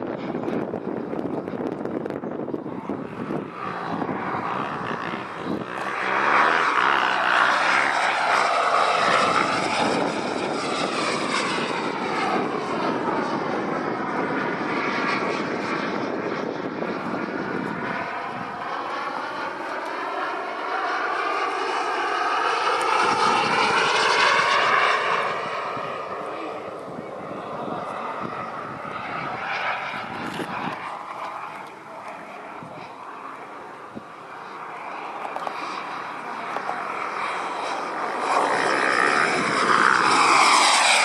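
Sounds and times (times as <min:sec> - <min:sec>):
model jet engine whine: 0:00.0 - 0:41.0.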